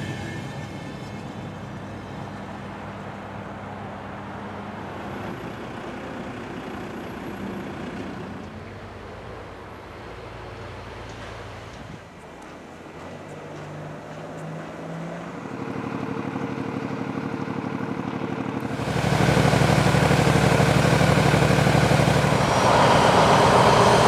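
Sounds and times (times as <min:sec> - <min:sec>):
motor vehicle engines rumbling: 0:00.0 - 0:24.0.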